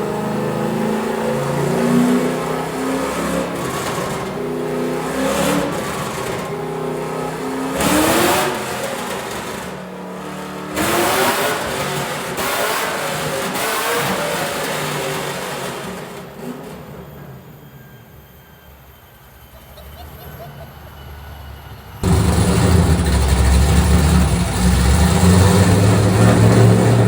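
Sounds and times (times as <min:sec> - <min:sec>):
car engine revving: 0:00.0 - 0:17.1, 0:22.0 - 0:27.0.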